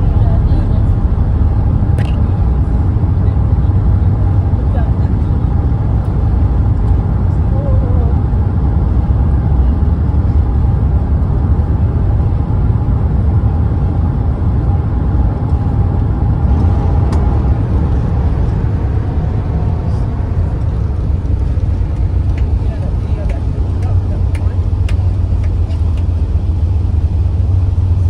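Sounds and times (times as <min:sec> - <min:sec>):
faint whine: 0:00.0 - 0:28.0
low cabin rumble: 0:00.0 - 0:28.0.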